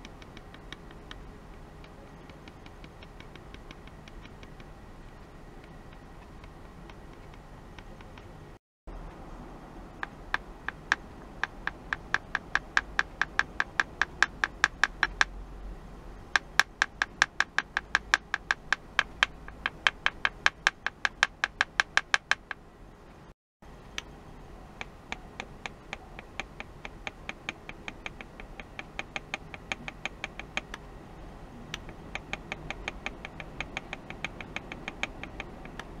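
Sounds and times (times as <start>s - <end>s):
rapid sharp clicks: 0.0s - 8.3s, 10.0s - 15.3s, 16.3s - 22.6s, 24.8s - 30.8s, 31.7s - 36.0s.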